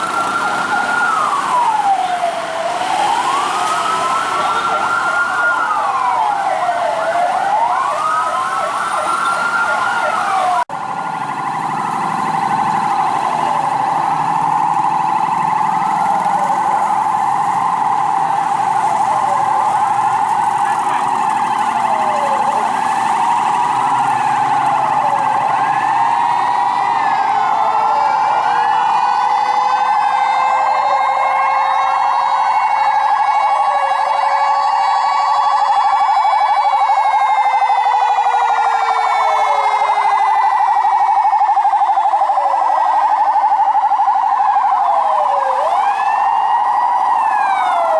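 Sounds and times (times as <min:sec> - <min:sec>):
fire truck sirens wailing: 0:00.0 - 0:47.9.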